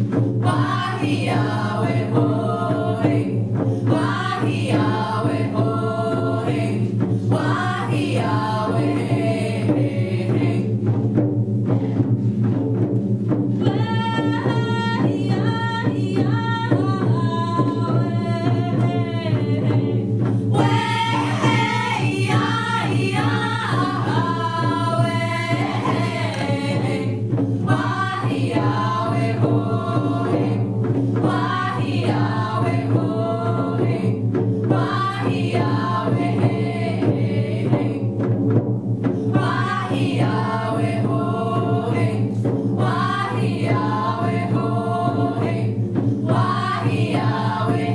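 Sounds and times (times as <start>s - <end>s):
women singing together: 0.0s - 12.6s, 13.4s - 47.9s
frame drums beating: 0.0s - 47.9s.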